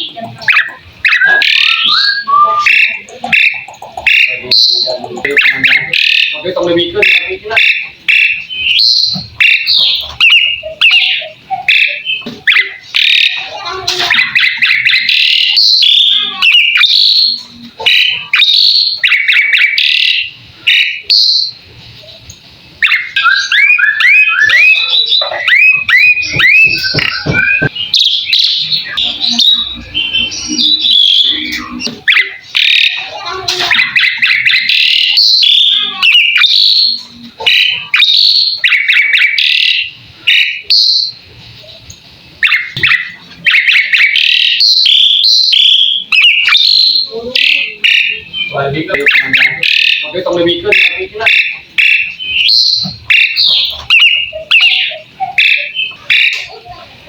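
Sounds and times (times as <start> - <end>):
starling singing: 0.0 - 57.0.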